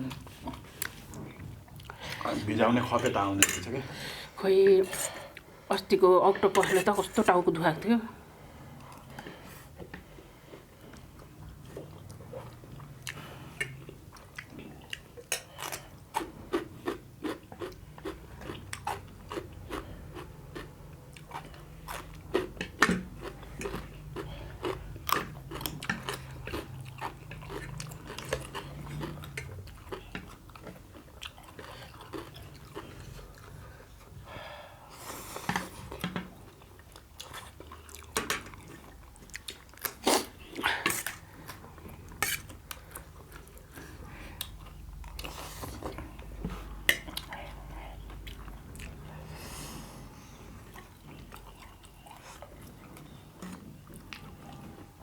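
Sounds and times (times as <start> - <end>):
person chewing crab: 8.8 - 34.6, 35.3 - 55.0.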